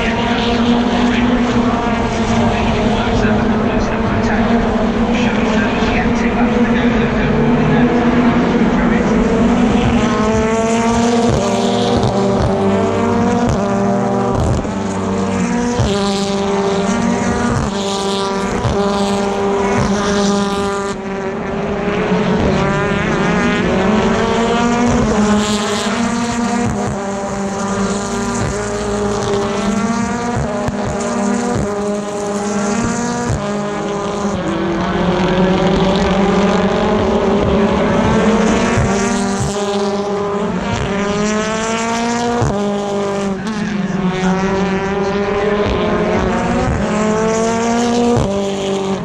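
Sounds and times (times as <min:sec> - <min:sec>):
race car engines accelerating: 0:00.0 - 0:49.0.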